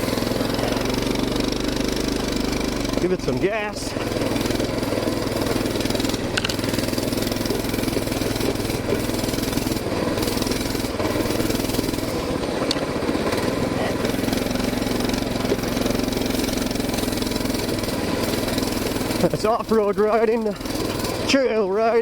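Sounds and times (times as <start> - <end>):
mini bike engine running: 0.0 - 22.0.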